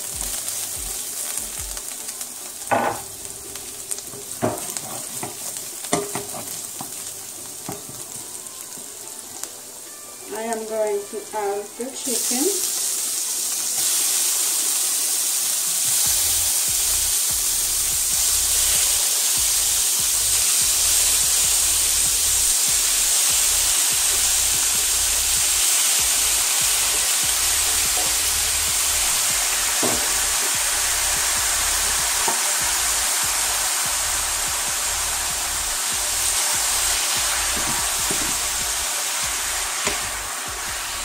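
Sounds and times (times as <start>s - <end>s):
chicken sizzling in oil: 0.0s - 41.0s.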